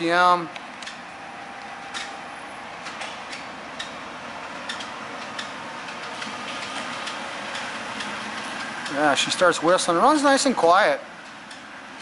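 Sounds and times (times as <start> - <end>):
lathe spindle whirring: 0.0 - 12.0.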